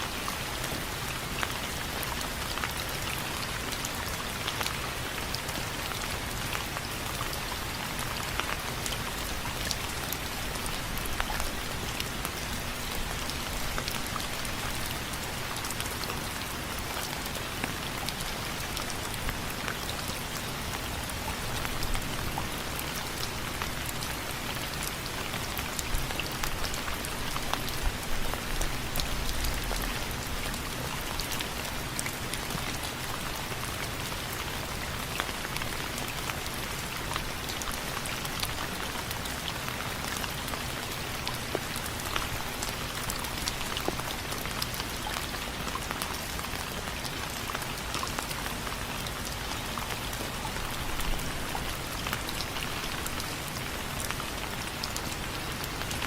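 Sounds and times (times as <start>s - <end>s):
rain on window frames: 0.0s - 56.0s.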